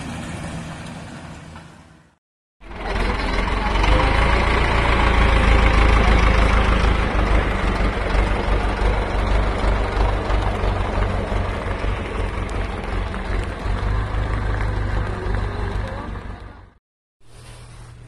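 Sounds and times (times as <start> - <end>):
tractor engine passing: 0.0 - 16.8.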